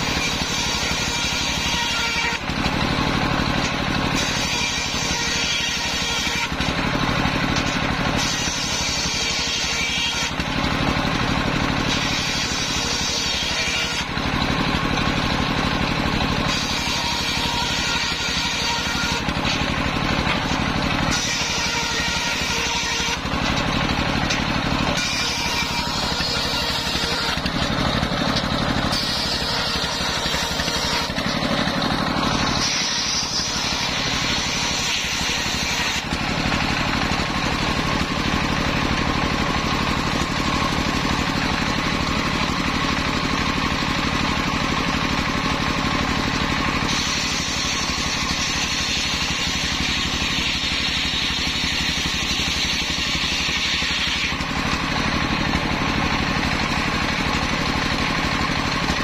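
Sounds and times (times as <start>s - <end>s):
table saw ripping through logs: 0.0s - 59.0s.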